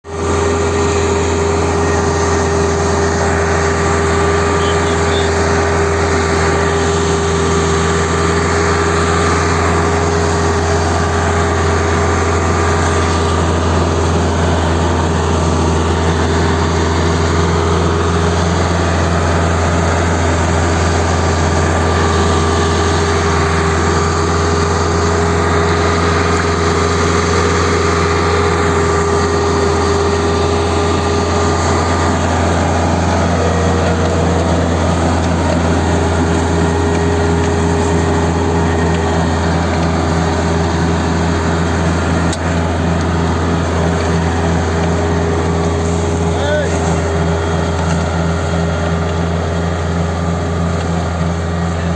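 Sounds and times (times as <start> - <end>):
tractor diesel engine droning: 0.0 - 51.9.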